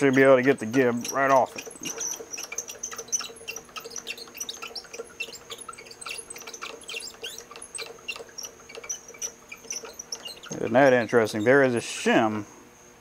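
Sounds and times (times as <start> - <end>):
lathe handwheel metal clicks: 0.0 - 12.0.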